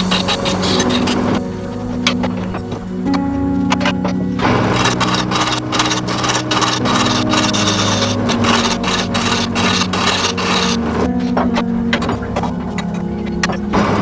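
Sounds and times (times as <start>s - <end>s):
lathe motor hum: 0.0s - 14.0s.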